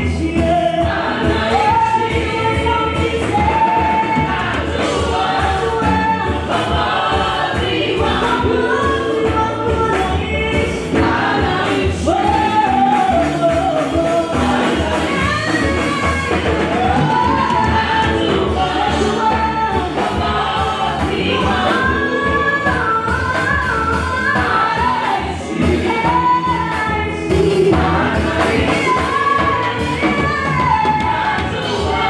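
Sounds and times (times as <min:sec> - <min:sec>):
church band playing: 0:00.0 - 0:32.0
gospel choir singing: 0:00.0 - 0:32.0.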